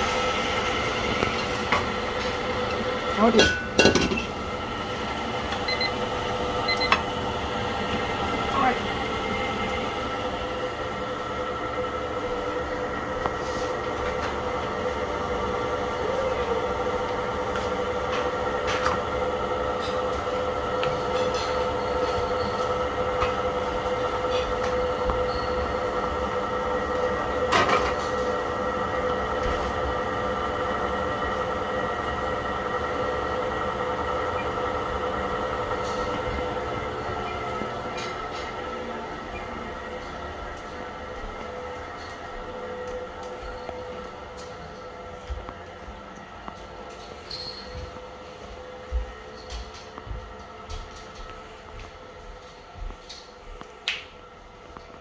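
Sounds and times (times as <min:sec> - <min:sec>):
mechanical hum with held tones: 0:00.0 - 0:55.0.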